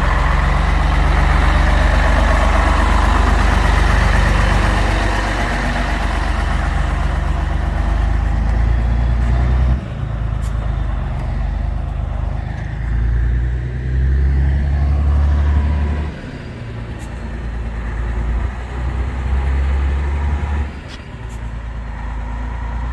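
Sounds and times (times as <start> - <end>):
diesel truck engine rumbling: 0.0 - 22.9.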